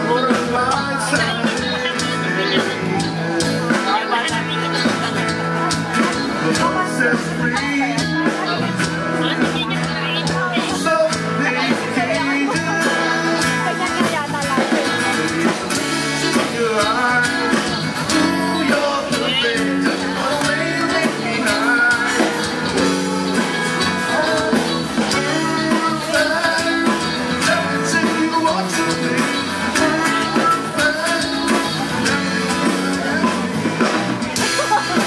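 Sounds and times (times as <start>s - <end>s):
man singing: 0.0s - 35.0s
rock band playing: 0.0s - 35.0s.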